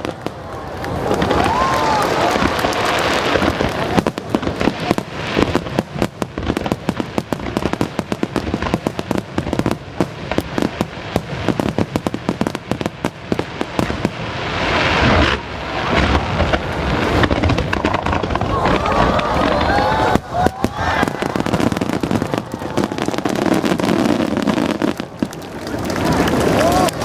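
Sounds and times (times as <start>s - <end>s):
fireworks popping and crackling: 0.0s - 27.0s.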